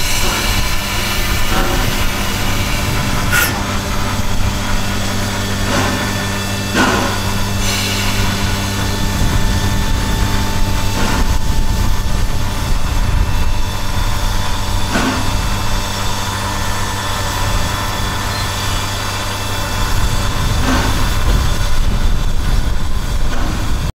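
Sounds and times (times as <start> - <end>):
mechanical hum: 0.0 - 23.9.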